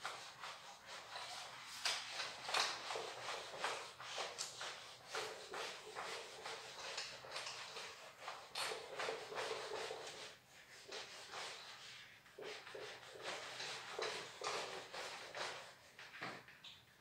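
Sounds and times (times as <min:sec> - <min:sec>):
eraser rubbing on whiteboard: 0:00.0 - 0:16.2.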